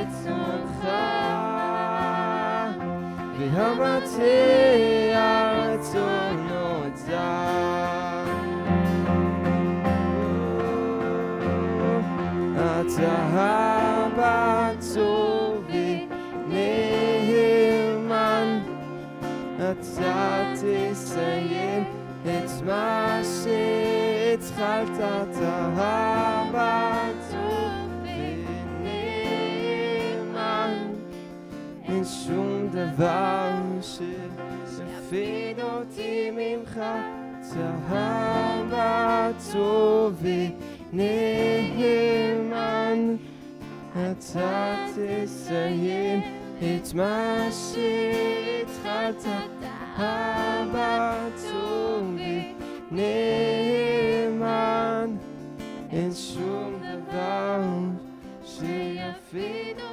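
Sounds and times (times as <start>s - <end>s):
voices singing: 0.0s - 8.8s, 9.9s - 55.2s, 55.8s - 59.9s
electric and acoustic guitars: 0.0s - 59.9s.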